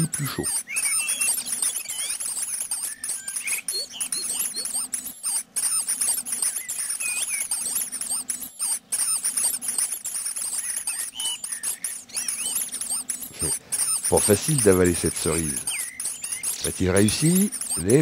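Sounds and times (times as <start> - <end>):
nestlings squeaky begging calls: 0.0 - 18.0.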